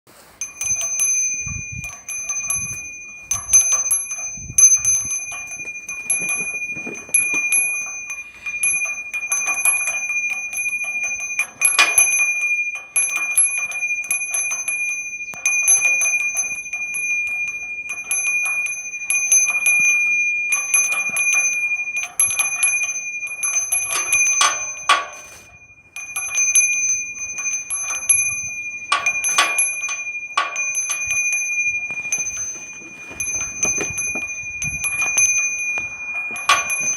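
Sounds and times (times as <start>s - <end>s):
bell ringing: 0.1s - 36.9s.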